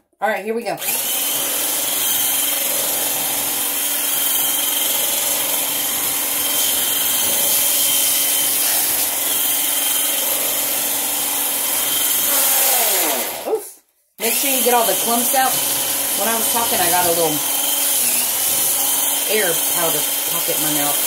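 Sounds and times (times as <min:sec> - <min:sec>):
immersion blender motor whine: 0:00.8 - 0:13.6, 0:14.2 - 0:21.0.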